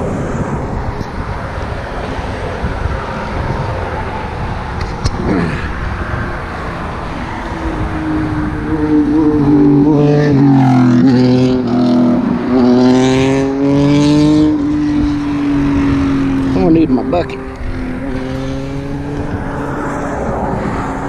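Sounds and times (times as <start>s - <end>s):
background traffic noise: 0.0s - 21.0s
vehicle engine passing close: 0.0s - 21.0s.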